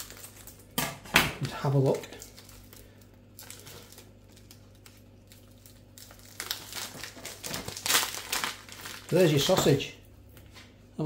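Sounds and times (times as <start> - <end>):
plastic film crinkling: 0.0 - 0.8, 1.4 - 10.5.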